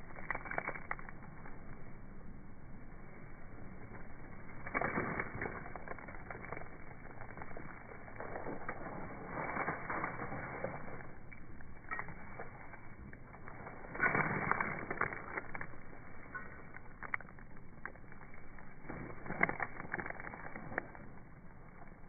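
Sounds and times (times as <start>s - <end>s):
dry leaves rustling and crackling: 0.0s - 1.8s, 3.7s - 22.0s.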